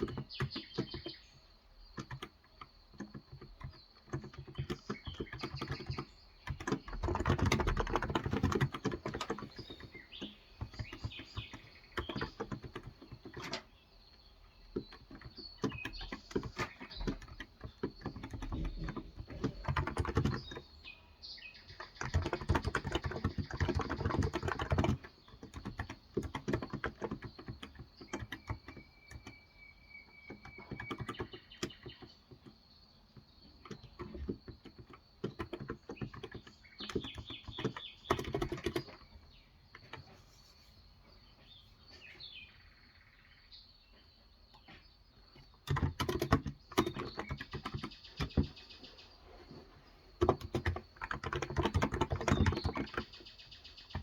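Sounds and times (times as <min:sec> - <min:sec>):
keyboard typing: 0:00.0 - 0:01.2, 0:01.8 - 0:20.9, 0:21.6 - 0:40.7, 0:45.4 - 0:48.9, 0:49.5 - 0:54.0
faint bird chirps: 0:00.0 - 0:54.0.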